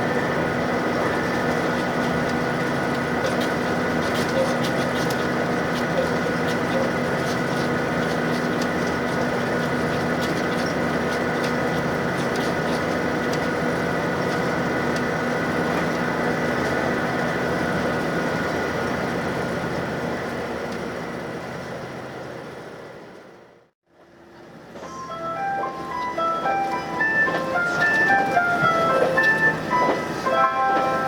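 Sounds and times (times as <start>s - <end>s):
engine and transmission hum: 0.0s - 31.0s
rail rumble: 0.0s - 31.0s.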